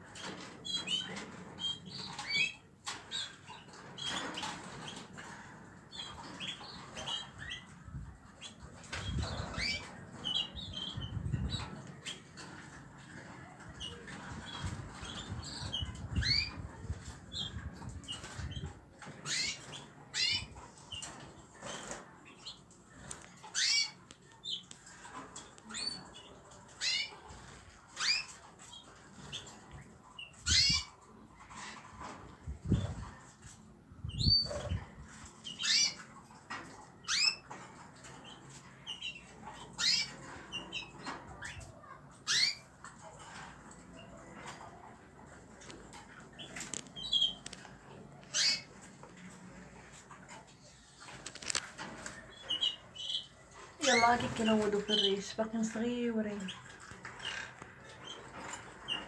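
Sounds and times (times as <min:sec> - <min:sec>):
young birds chirping: 0:00.0 - 0:59.0.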